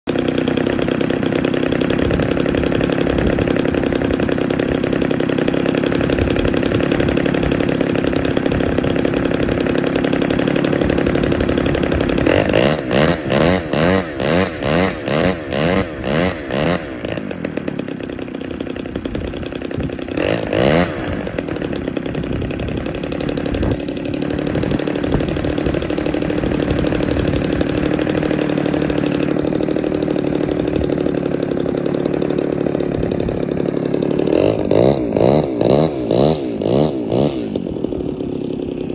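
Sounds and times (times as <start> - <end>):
model plane engine idling: 0.1 - 38.9.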